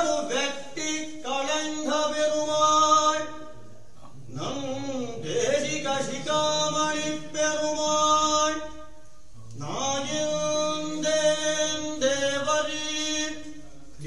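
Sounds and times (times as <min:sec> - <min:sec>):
devotional chanting: 0:00.0 - 0:14.0.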